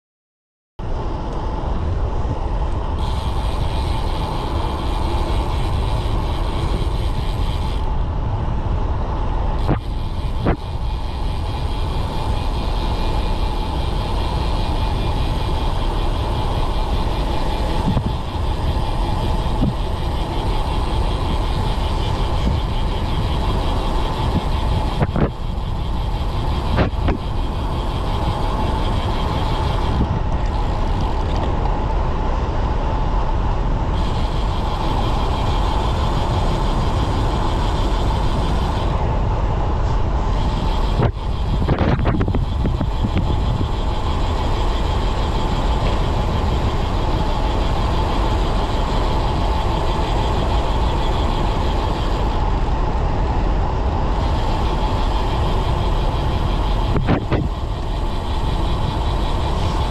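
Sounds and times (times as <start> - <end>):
bike mechanical rattle: 0.8 - 59.9
wind and tyres on road: 0.8 - 59.9.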